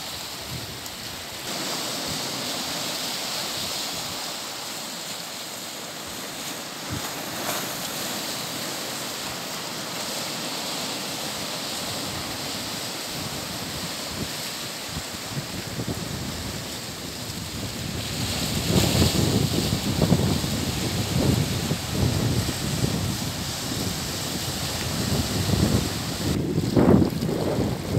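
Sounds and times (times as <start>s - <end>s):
sea surf over rocks: 0.0s - 27.9s.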